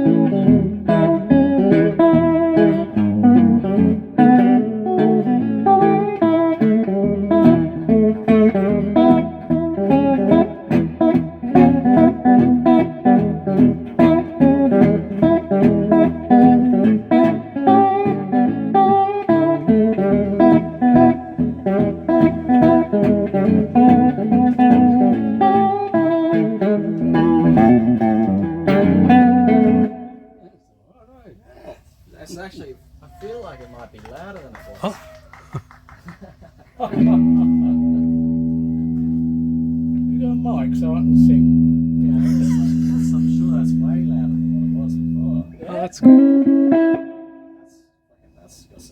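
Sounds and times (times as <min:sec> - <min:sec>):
electric guitar notes and chords: 0:00.0 - 0:30.4, 0:36.9 - 0:47.8.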